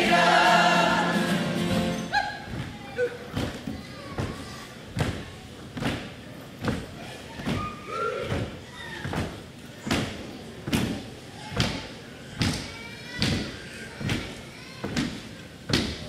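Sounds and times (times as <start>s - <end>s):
group stamping and slapping: 2.5s - 16.0s.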